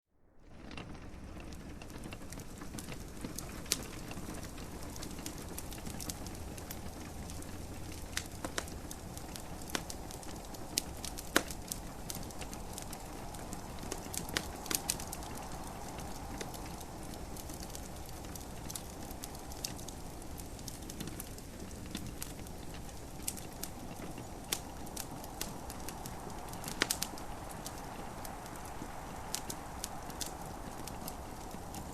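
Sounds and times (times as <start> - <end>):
gentle rain hiss: 0.4 - 31.9
wood fire crackling: 0.4 - 31.9
fire pops: 0.5 - 31.9.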